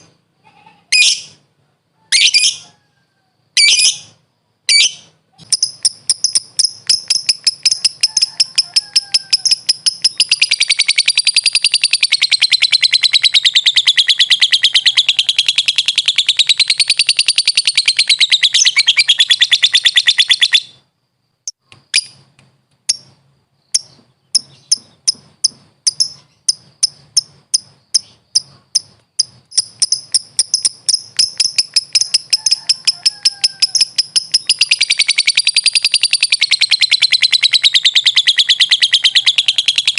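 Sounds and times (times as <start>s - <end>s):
lovebird chattering trill: 0.9s - 1.4s, 3.6s - 20.8s, 22.9s - 39.9s.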